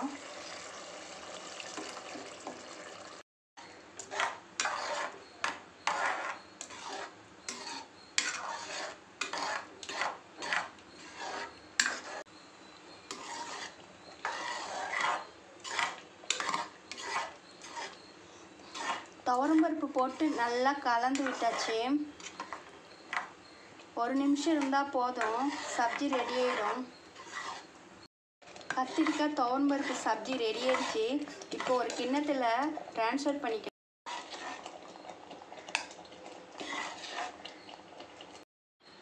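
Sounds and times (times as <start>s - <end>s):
metal ladle scraping pot: 4.0s - 12.3s, 13.0s - 27.8s, 28.5s - 33.0s, 34.1s - 38.4s.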